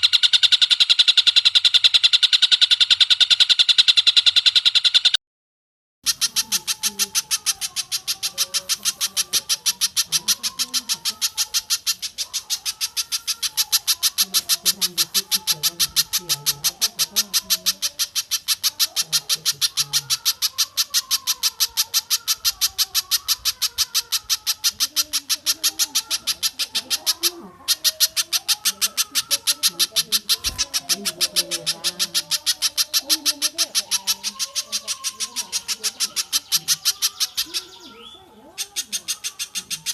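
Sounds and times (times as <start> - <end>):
bird sharp high chip notes: 0.0 - 5.2, 6.1 - 39.9
chickens clucking faintly: 6.1 - 39.9.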